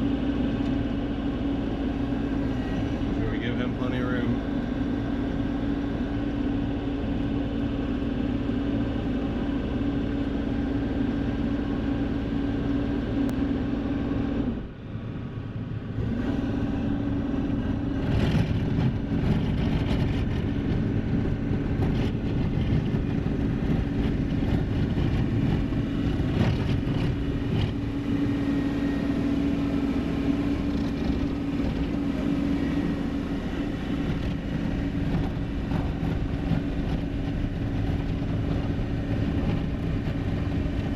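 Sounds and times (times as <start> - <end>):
diesel truck engine: 0.0 - 40.9.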